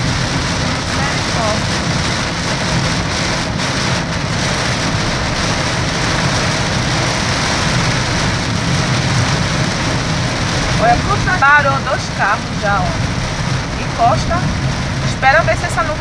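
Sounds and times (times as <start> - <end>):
heavy rain drumming on car: 0.0 - 16.0
tyres on wet road: 0.0 - 16.0.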